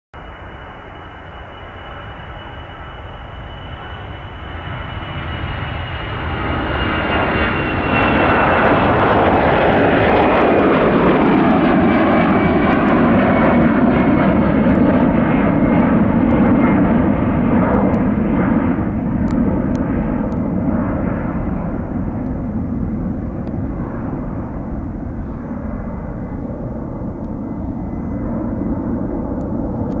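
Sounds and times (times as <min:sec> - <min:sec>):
jet engine whine: 0:00.2 - 0:30.0
jet engines roaring: 0:00.2 - 0:30.0.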